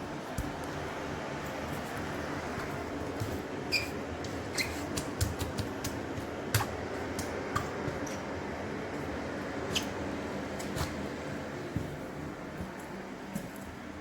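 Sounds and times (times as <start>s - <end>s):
dehumidifiers whirring hum: 0.0s - 14.0s.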